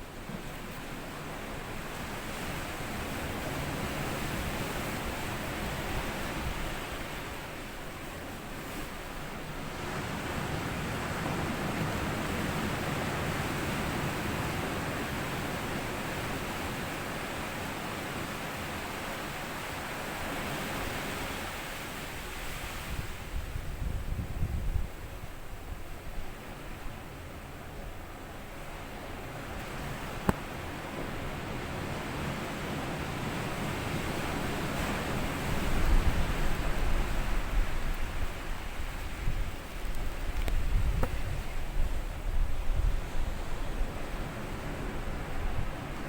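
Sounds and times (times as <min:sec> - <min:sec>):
small waves washing on sand: 0:00.1 - 0:23.8, 0:28.5 - 0:46.0.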